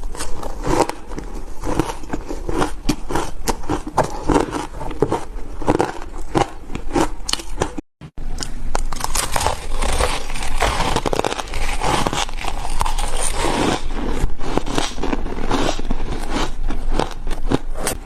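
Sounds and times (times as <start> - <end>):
person chewing ice: 0.0 - 18.0.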